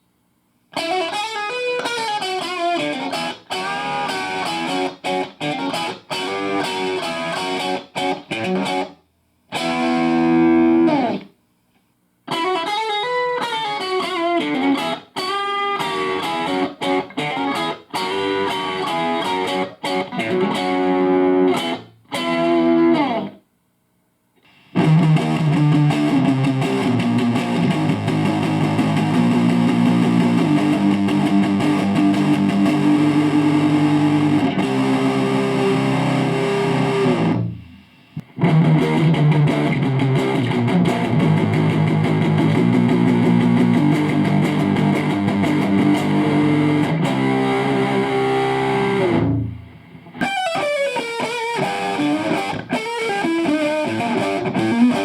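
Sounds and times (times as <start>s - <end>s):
distorted electric guitar: 0.7s - 11.4s, 12.3s - 23.4s, 24.4s - 55.0s.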